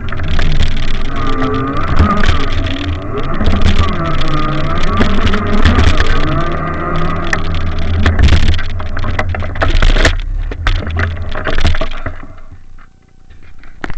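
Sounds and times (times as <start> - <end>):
rattles and knocks: 0.0 - 12.8
engine humming: 0.0 - 13.9.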